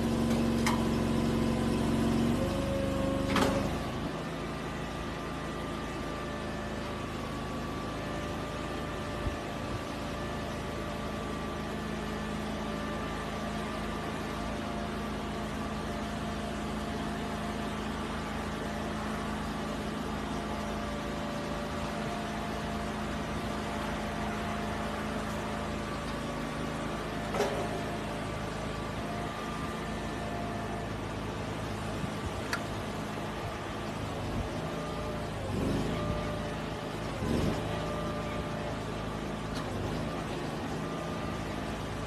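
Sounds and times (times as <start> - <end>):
heavy machinery engine idling: 0.0 - 42.0.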